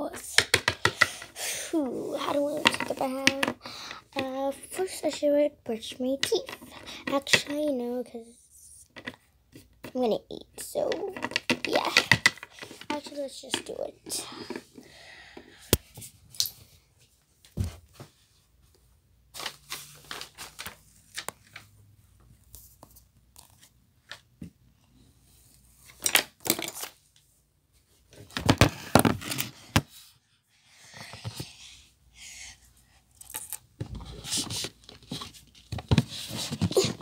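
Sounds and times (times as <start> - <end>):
rustling and scraping of toys: 0.0 - 37.0.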